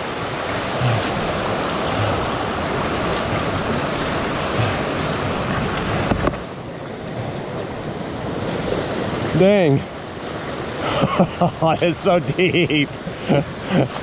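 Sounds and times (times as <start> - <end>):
storm runoff rushing in creek: 0.0 - 14.0.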